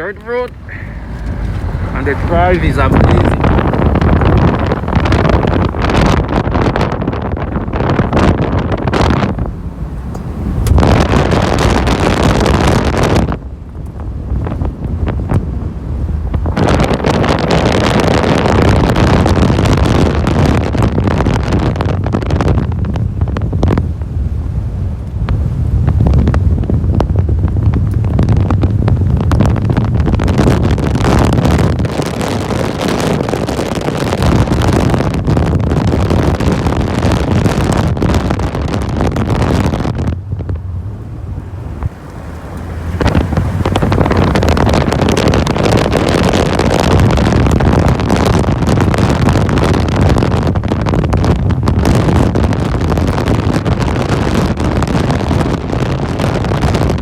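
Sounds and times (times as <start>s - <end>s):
vehicle driving on dirt road: 0.0s - 57.0s
wind buffeting microphone: 0.0s - 57.0s.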